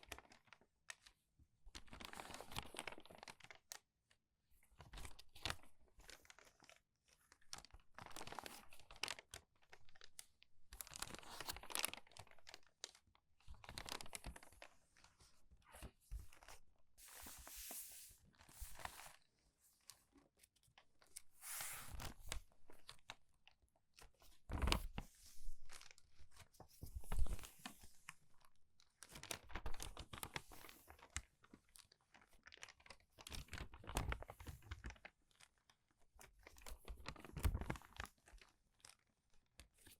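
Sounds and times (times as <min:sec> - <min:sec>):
crumpled paper pages turning: 0:00.0 - 0:03.7, 0:04.8 - 0:39.9.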